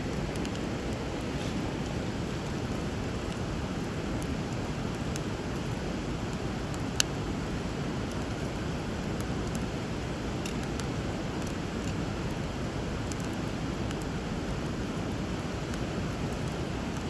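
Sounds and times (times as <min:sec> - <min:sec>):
river water running: 0:00.0 - 0:17.0
wood fire crackling: 0:00.0 - 0:17.0.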